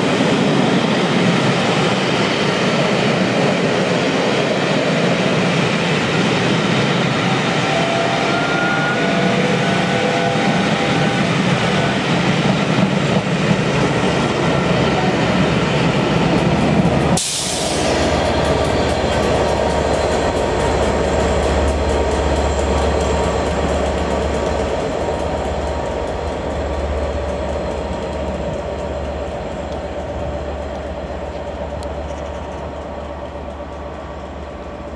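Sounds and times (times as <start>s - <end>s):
low rumble of train: 0.0s - 34.9s
train coaches rolling past: 0.0s - 34.9s
train wheel noise: 0.0s - 34.9s.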